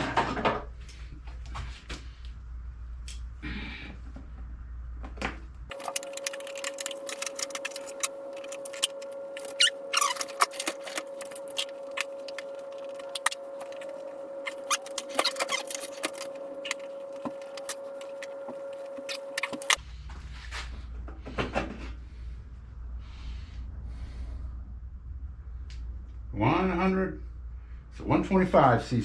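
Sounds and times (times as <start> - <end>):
steady mid-pitched hum: 0.7 - 29.0.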